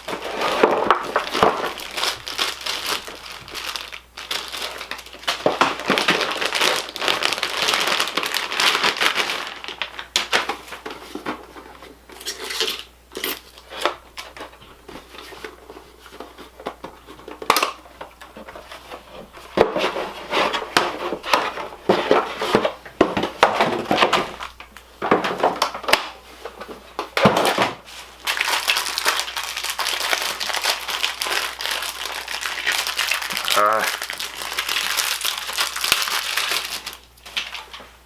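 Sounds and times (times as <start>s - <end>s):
packaging crinkling and rustling: 0.0s - 38.0s.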